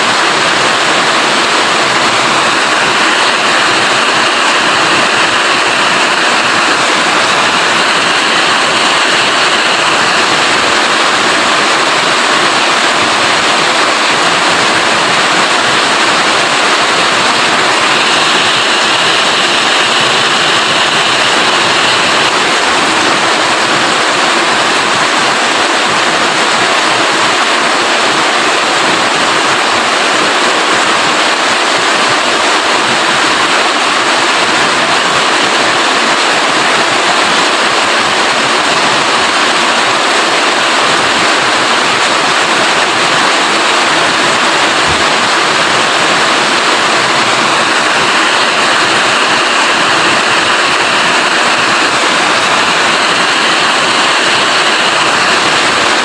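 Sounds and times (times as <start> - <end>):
rain falling steadily: 0.0 - 56.0.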